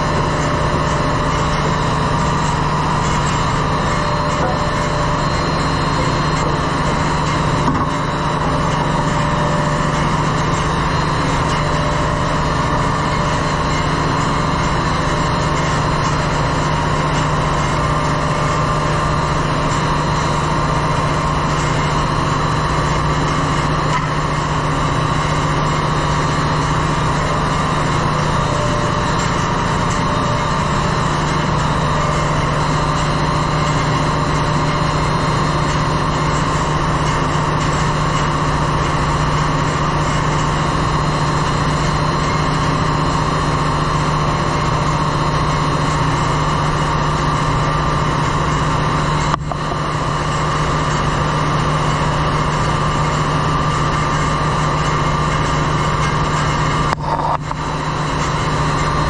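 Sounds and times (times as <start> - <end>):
engine room machinery hum: 0.0 - 59.0.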